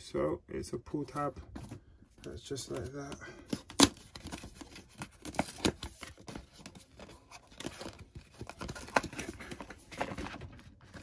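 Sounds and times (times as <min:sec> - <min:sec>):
cardboard clicks and rustles: 0:01.6 - 0:11.0.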